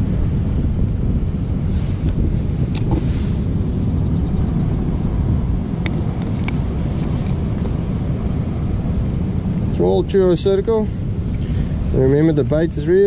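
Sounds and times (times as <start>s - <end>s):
surf on rocky shore: 0.0s - 13.0s
wind on microphone: 0.0s - 13.0s.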